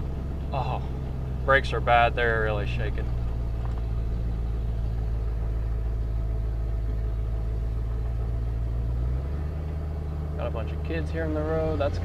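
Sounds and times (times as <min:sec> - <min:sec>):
truck engine running low revs: 0:00.0 - 0:12.0.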